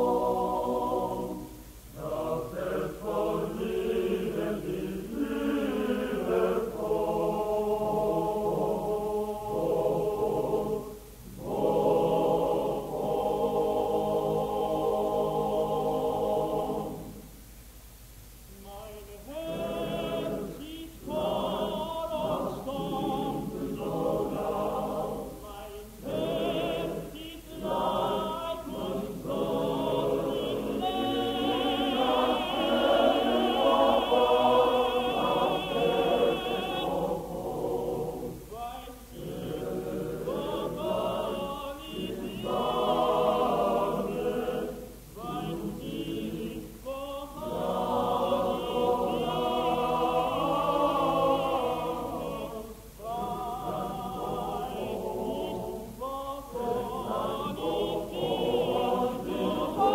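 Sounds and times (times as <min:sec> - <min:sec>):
male choir singing unaccompanied: 0:00.0 - 0:17.3, 0:18.5 - 0:59.9.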